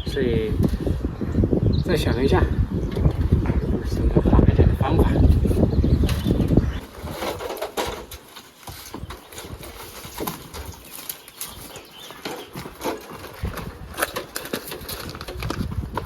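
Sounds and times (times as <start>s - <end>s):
gusty wind: 0.0s - 16.0s.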